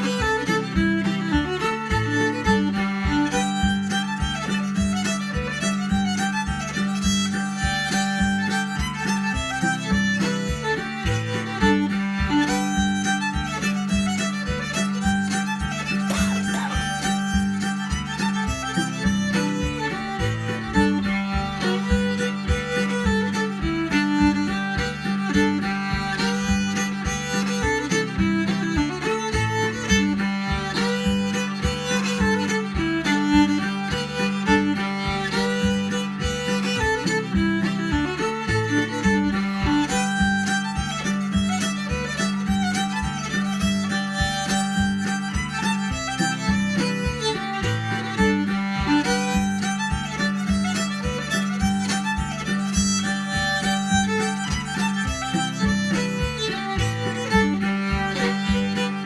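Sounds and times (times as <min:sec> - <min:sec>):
fiddle playing a tune: 0:00.0 - 0:59.0.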